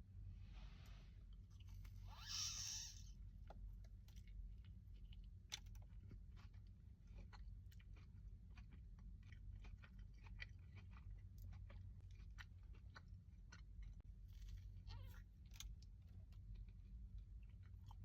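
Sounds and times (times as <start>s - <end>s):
chewing crunchy food: 3.1s - 18.0s.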